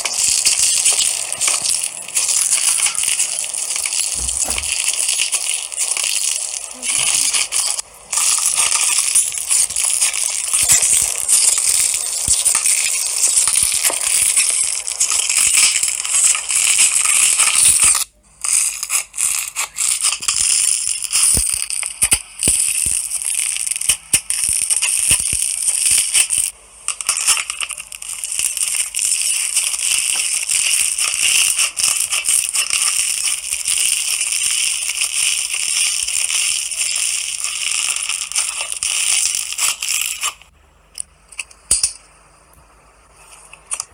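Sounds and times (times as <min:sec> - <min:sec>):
slime crackling and clicking: 0:00.0 - 0:41.1.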